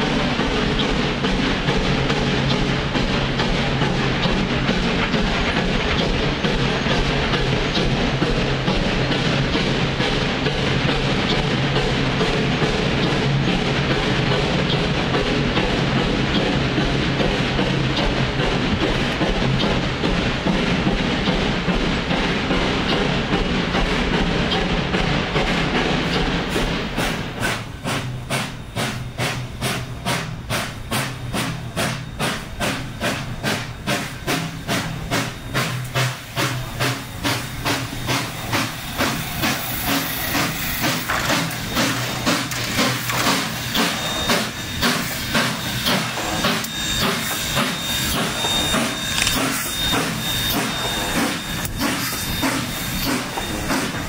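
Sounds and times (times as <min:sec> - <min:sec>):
steam hissing: 0:00.0 - 0:54.0
steam locomotive exhaust chuffing: 0:00.0 - 0:54.0.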